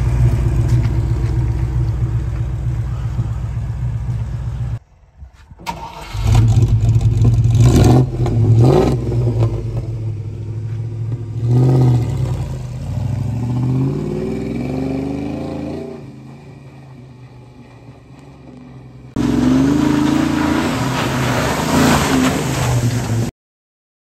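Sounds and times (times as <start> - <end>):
truck engine revving: 0.0 - 4.8, 5.8 - 16.4, 18.5 - 23.3.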